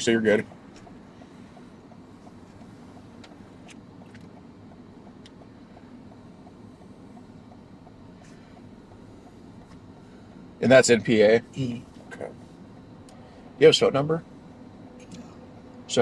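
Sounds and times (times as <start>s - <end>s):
car cabin hum: 0.0s - 16.0s.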